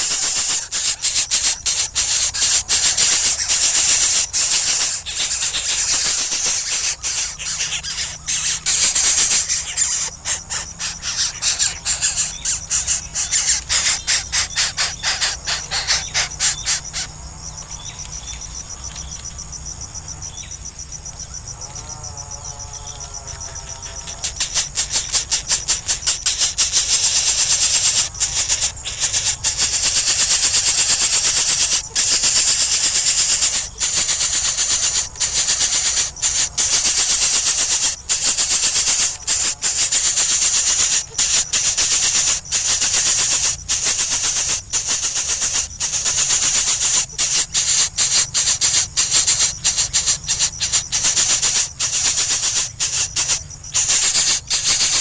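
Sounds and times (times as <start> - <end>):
pulsing high-pitched insect buzz: 0.0 - 55.0.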